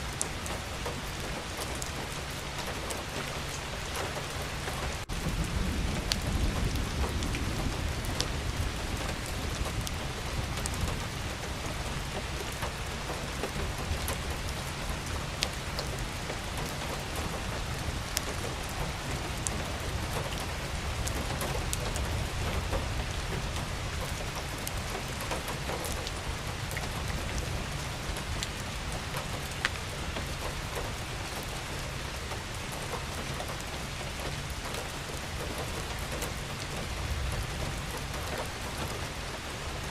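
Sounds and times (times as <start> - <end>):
raindrops ticking on a surface: 0.0 - 39.9
steady rain: 0.0 - 39.9.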